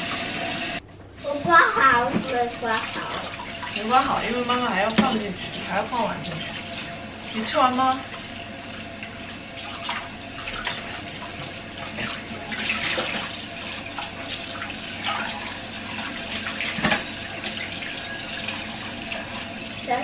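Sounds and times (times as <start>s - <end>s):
tap water splashing in sink: 1.4s - 20.0s.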